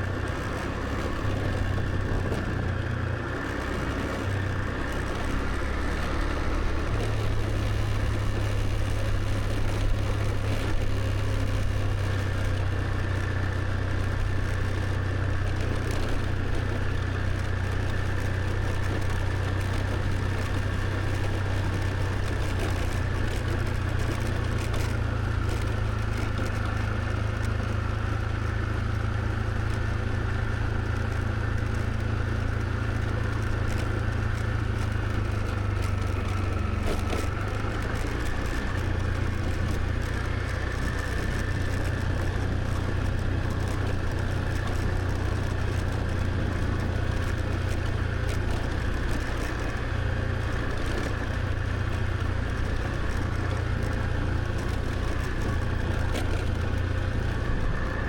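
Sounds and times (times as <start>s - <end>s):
motor scooter engine rumble: 0.0s - 58.0s.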